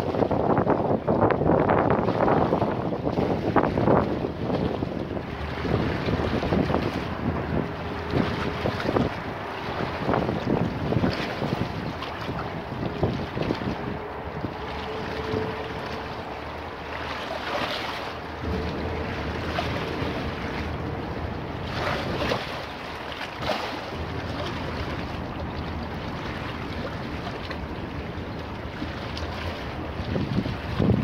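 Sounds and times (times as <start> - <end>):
river water lapping and splashing: 0.0 - 31.0
wind gusts on microphone: 0.0 - 31.0.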